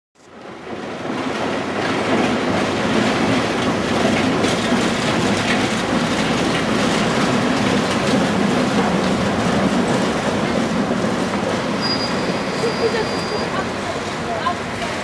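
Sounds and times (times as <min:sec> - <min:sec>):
suspension railway train running: 0:00.2 - 0:15.0.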